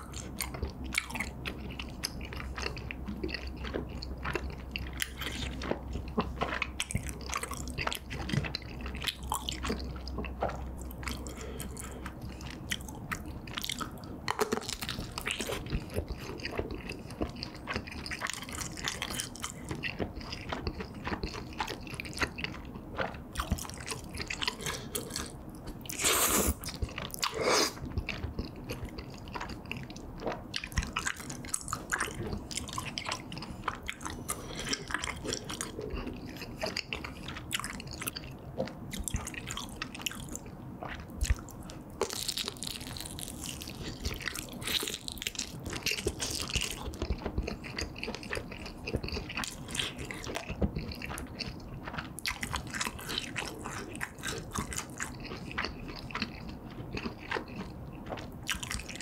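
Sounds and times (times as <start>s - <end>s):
wet chewing sounds: 0.0s - 59.0s.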